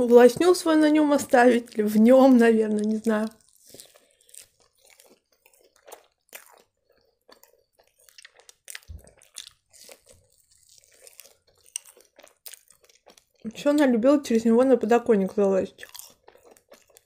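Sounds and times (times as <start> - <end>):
close-miked chewing and biting: 1.0 - 13.9, 15.7 - 17.0.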